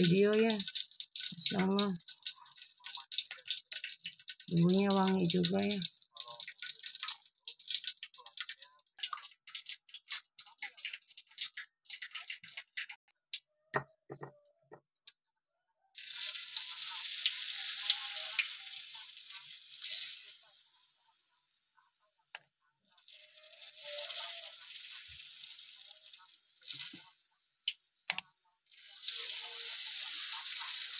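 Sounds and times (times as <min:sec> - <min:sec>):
batter sizzling in hot oil: 0:00.0 - 0:13.0, 0:16.0 - 0:30.9.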